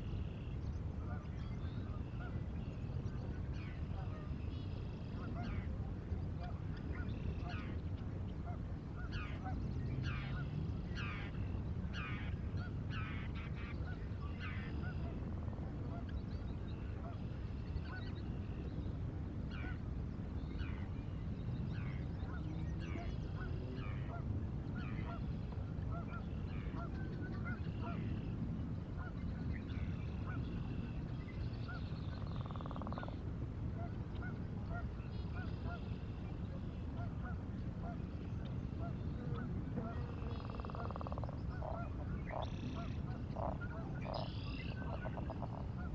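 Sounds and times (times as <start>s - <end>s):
low steady rumble: 0.0s - 45.9s.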